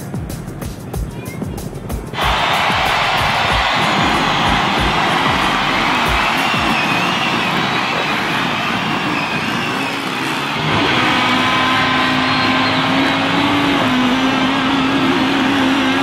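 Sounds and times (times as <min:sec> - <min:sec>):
dirt bike engines passing: 0:02.2 - 0:16.0.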